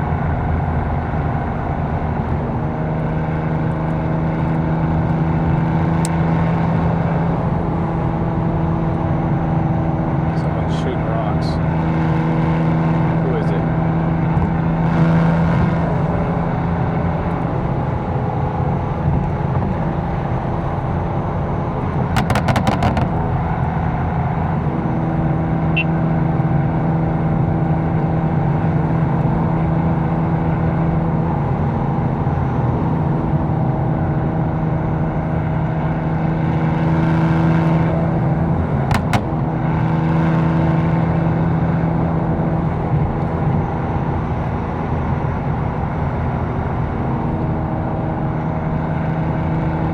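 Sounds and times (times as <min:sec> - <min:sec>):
car engine drone: 0:00.0 - 0:49.9
road noise: 0:00.0 - 0:49.9.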